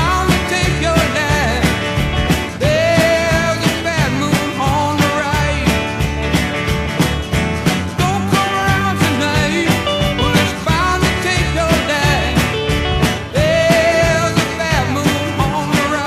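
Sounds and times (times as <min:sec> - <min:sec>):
person singing rock song: 0:00.0 - 0:16.0
steady drum beat: 0:00.0 - 0:16.0.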